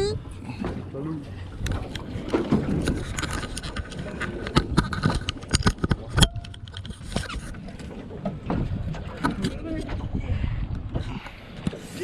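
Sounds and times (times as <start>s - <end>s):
knocks and clatter on boat: 0.0s - 12.0s.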